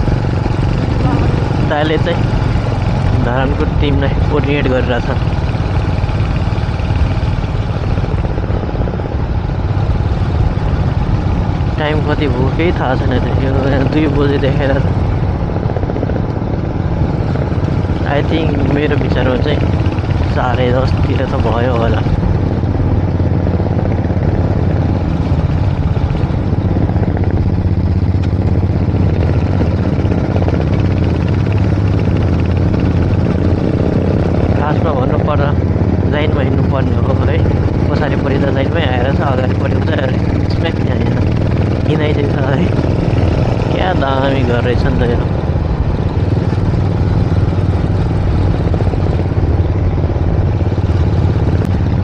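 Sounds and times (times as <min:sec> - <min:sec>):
motorcycle engine rumble: 0:00.0 - 0:52.0
road noise: 0:00.0 - 0:52.0.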